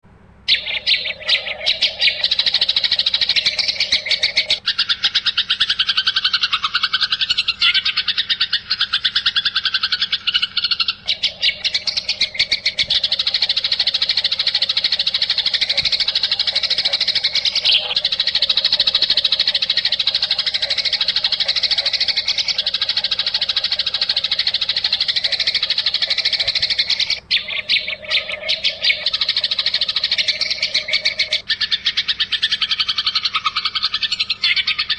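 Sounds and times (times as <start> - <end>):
lower bird trilling: 0.4 - 34.9
songbirds chattering and trilling: 0.4 - 34.9.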